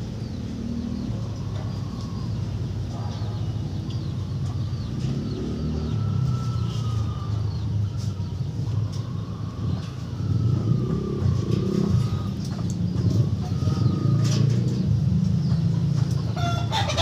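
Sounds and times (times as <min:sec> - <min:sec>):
low engine rumble: 0:00.0 - 0:17.0
small birds chirping: 0:00.0 - 0:17.0.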